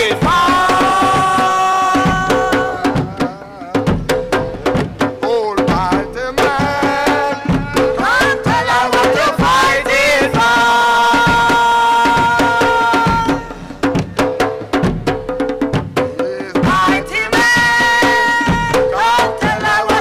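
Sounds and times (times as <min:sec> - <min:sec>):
hand drums: 0:00.0 - 0:20.0.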